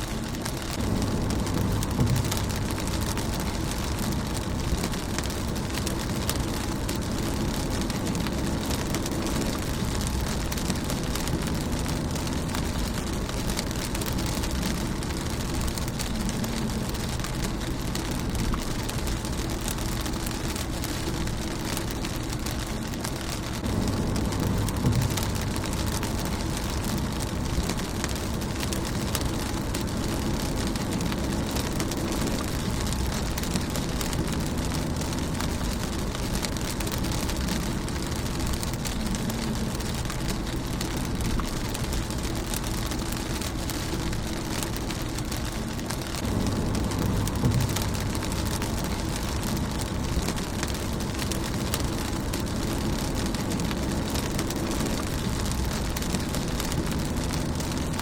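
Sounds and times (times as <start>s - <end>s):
low rumble: 0.0s - 58.0s
rain pattering on a car: 0.0s - 58.0s.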